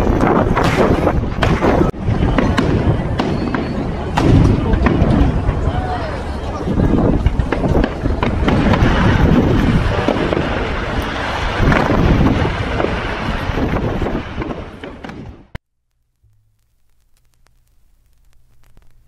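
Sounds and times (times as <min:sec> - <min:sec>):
crowd noise: 0:00.0 - 0:15.3
fireworks bangs and crackling: 0:00.0 - 0:15.6
wind on microphone: 0:00.0 - 0:15.6.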